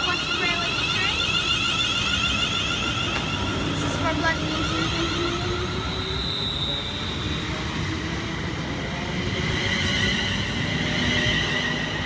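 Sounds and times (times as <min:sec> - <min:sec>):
high-pitched train tone: 0:00.0 - 0:12.0
train wheels rumbling on rail: 0:00.0 - 0:12.0.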